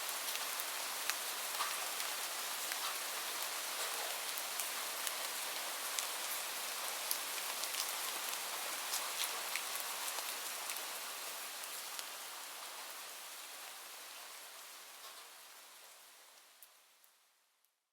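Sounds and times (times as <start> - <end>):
steady rain falling: 0.0 - 17.7.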